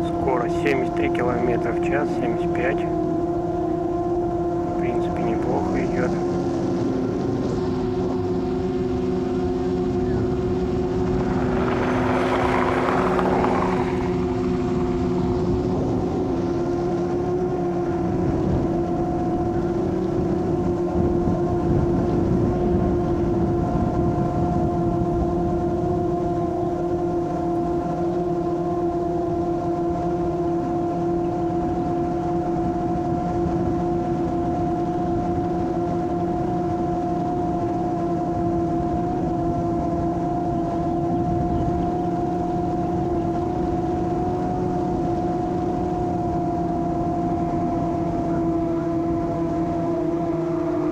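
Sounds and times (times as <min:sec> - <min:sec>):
quadcopter motors humming: 0:00.0 - 0:50.9.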